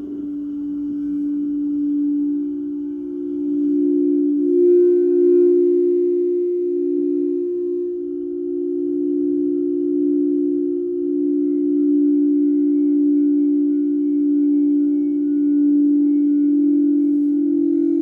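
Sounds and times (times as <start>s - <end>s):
singing bowls droning: 0.0s - 18.0s.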